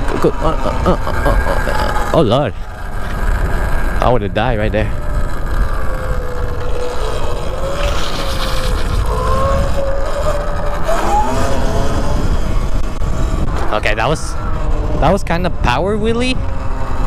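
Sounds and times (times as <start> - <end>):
motorbike engine revving: 0.0 - 17.0
wind rumble on microphone: 0.0 - 17.0.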